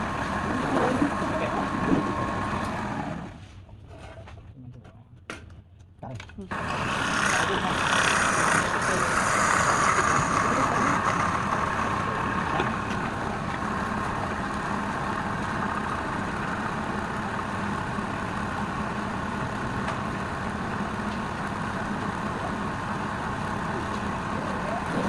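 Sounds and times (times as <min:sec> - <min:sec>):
wood lathe humming: 0:00.0 - 0:03.4, 0:06.5 - 0:25.0.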